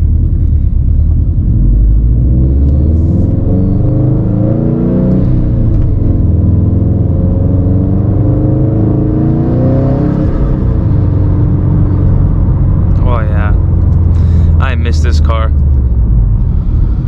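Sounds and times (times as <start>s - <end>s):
car engine running: 0.0s - 17.0s
road rumble: 0.0s - 17.0s.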